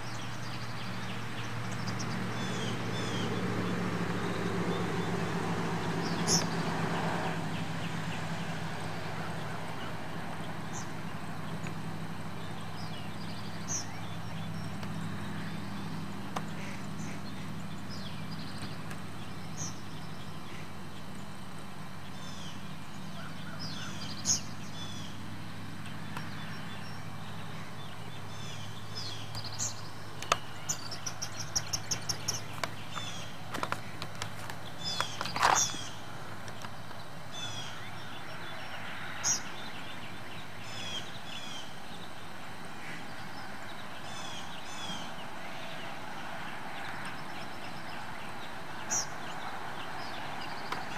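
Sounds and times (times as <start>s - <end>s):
birds chirping: 0.0s - 50.9s
steady low hum: 0.0s - 50.9s.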